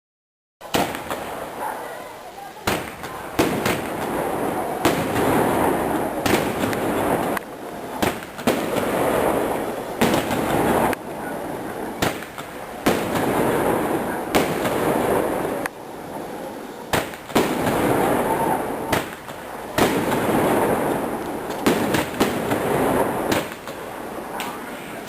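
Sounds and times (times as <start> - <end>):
firework bangs: 0.6 - 25.0
firework hissing and crackling: 0.6 - 25.0.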